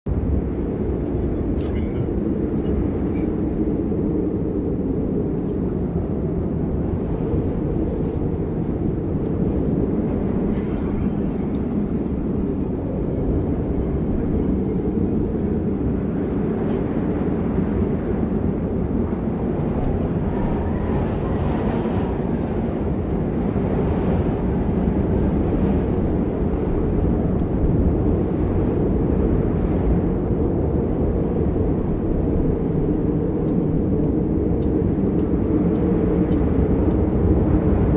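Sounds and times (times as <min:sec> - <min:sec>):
storm wind buffeting microphone: 0:00.1 - 0:37.9.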